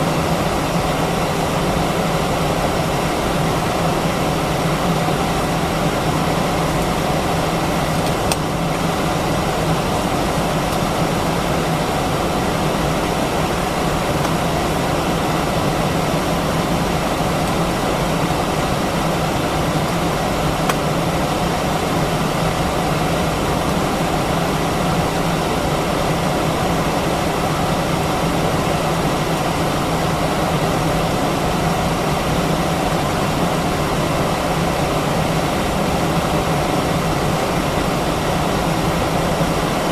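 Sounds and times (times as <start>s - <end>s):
jet engine cabin hum: 0.0s - 39.9s.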